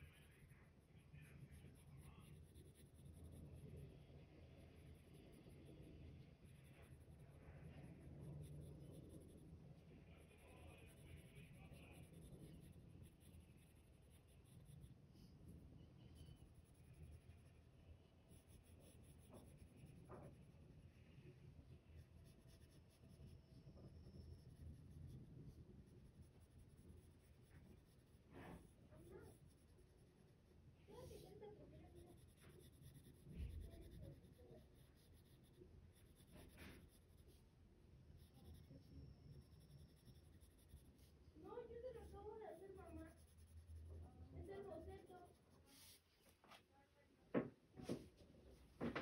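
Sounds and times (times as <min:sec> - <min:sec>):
pencil scratching on paper: 0:00.0 - 0:20.9, 0:21.7 - 0:46.6.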